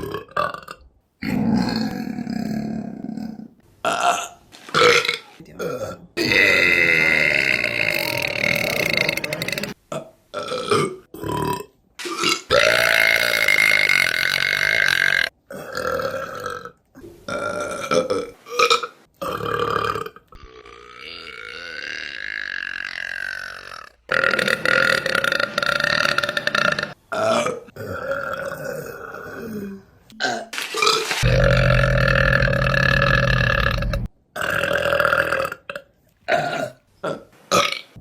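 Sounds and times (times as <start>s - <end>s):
woman burping: 5.0s - 23.2s, 24.1s - 30.5s, 31.3s - 37.8s.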